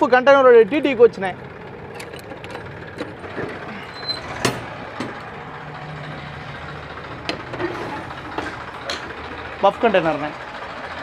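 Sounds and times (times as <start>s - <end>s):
vehicle background hum: 0.0s - 11.0s.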